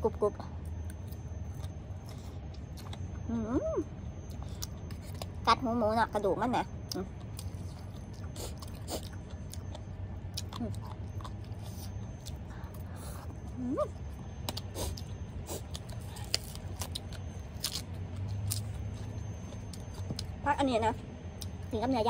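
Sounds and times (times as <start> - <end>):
close chewing with crunches: 0.3 - 3.3, 4.1 - 20.6.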